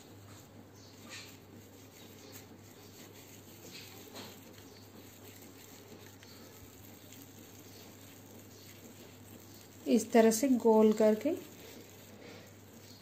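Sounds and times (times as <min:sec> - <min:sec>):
dough squishing between palms: 0:00.0 - 0:13.0.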